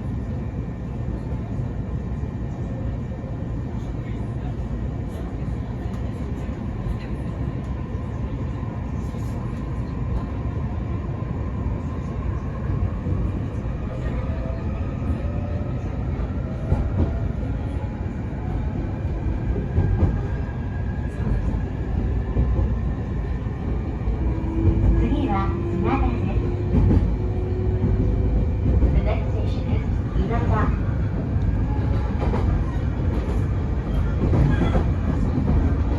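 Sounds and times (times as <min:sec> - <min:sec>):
train wheels rumbling on rails: 0:00.2 - 0:35.9.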